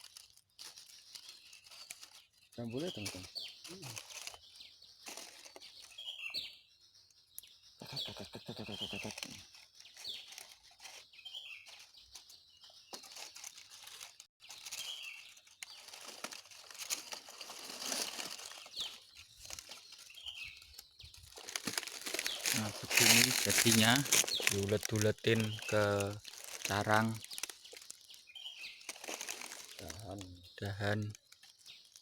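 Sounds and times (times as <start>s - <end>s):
rustling and handling noise: 0.0s - 6.1s, 8.8s - 32.0s
small bird chirping: 0.0s - 32.0s.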